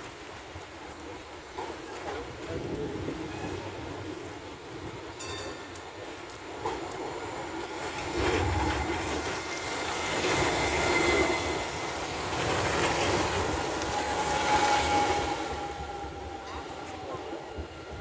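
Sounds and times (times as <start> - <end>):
tram running on rails: 0.0 - 18.0.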